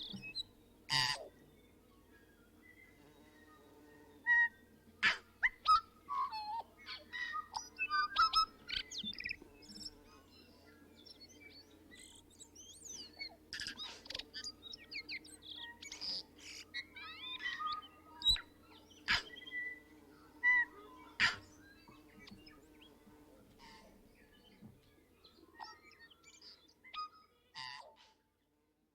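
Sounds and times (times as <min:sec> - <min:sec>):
birds chirping and calling: 0:00.0 - 0:28.1.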